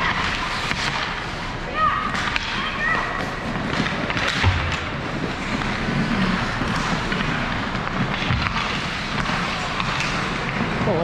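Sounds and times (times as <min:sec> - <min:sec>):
hockey sticks and puck clacking: 0:00.0 - 0:11.0
skate blades scraping ice: 0:00.0 - 0:11.0.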